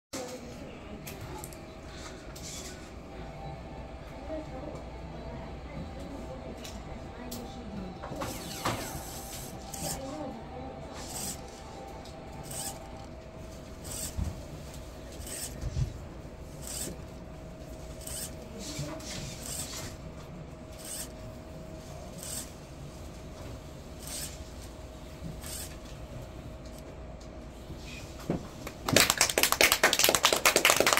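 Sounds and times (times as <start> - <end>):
faint motor hum: 0.2 - 30.9.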